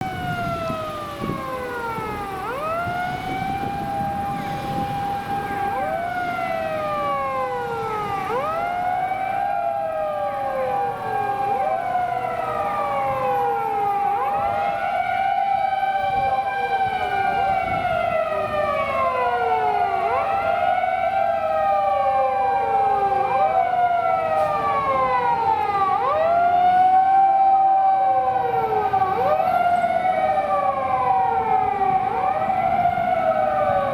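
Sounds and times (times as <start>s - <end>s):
fire engine siren wailing: 0.0s - 33.9s.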